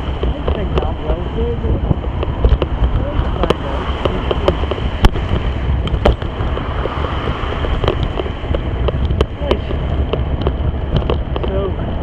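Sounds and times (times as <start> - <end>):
wind buffeting microphone: 0.0 - 12.0
sharp clicks and knocks: 0.1 - 1.2, 1.9 - 11.7.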